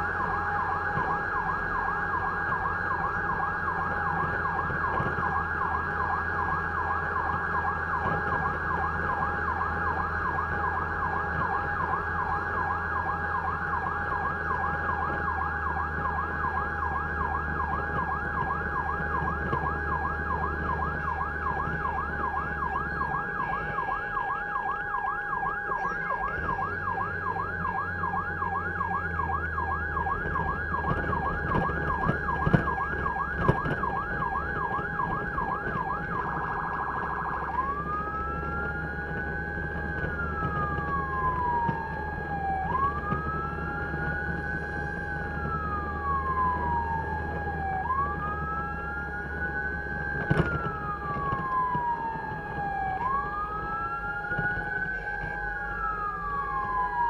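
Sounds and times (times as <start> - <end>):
electronic siren yelping and wailing: 0.0 - 57.0
low engine drone: 0.0 - 57.0.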